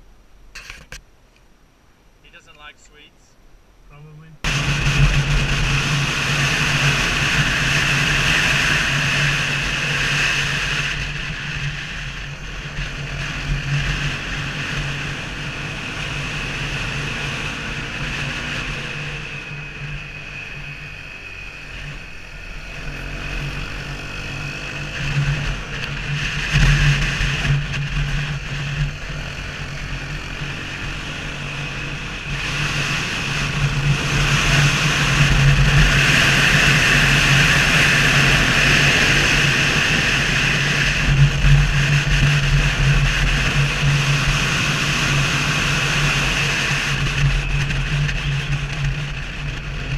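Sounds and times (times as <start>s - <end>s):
motorcycle engine running: 4.4s - 49.9s.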